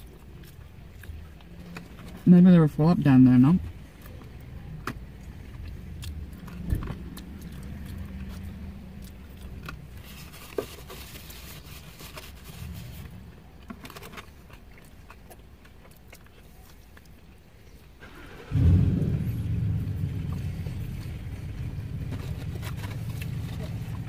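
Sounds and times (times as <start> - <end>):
chewing and eating sounds: 0.0 - 2.3, 3.0 - 18.0, 20.2 - 24.0
low steady rumble: 0.0 - 24.0.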